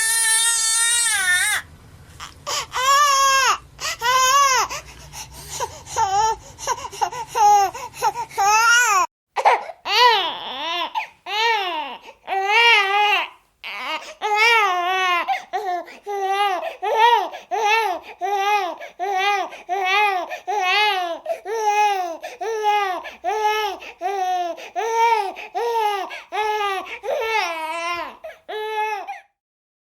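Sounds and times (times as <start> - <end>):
cartoon baby crying: 0.0 - 1.6, 2.2 - 4.8, 5.5 - 29.3.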